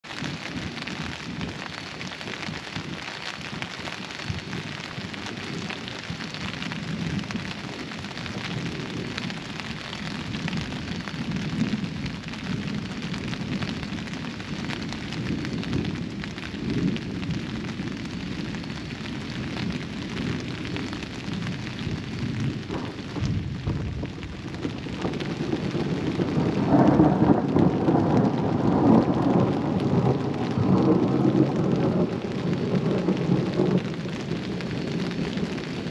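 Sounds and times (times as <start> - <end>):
steady rain falling: 0.0 - 35.9
low rolling thunder: 0.1 - 35.9.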